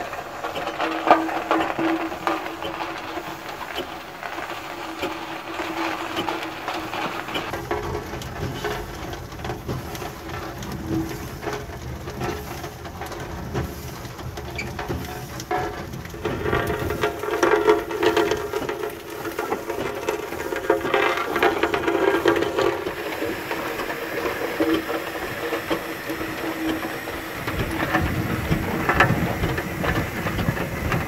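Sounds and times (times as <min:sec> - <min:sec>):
iron rolls over stone: 0:00.0 - 0:31.0
steam road roller engine running: 0:00.0 - 0:31.0.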